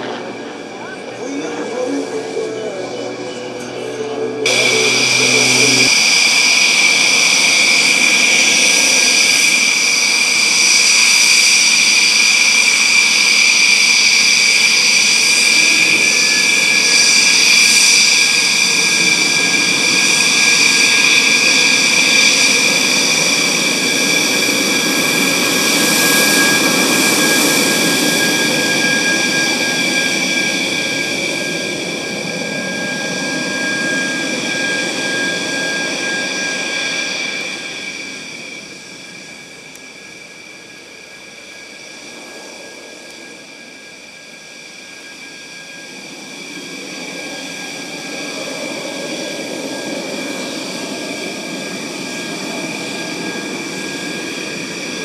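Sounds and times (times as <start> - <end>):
jet engine whining: 0.0 - 55.0.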